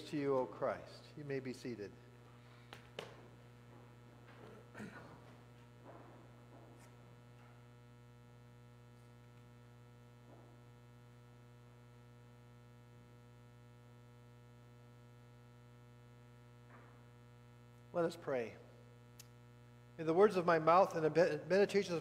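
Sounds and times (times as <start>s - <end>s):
low electrical mains hum: 0.0s - 22.0s.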